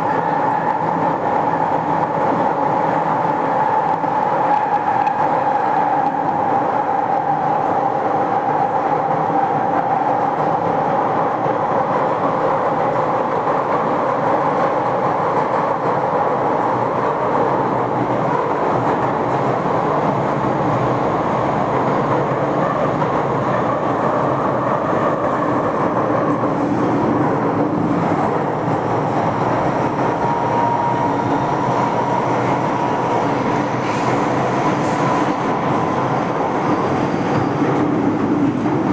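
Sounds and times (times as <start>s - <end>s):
train wheels rumbling on track: 0.0s - 38.9s.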